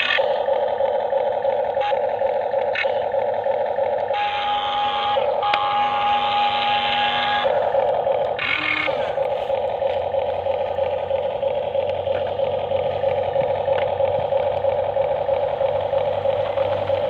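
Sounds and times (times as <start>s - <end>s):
low hum: 0.0s - 17.0s
small motor whining: 0.0s - 17.0s.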